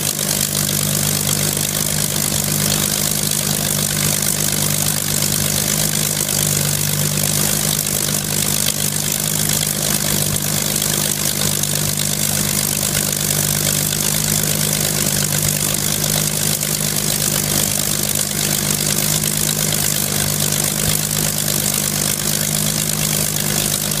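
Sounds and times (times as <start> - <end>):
aero engine idling: 0.0 - 24.0.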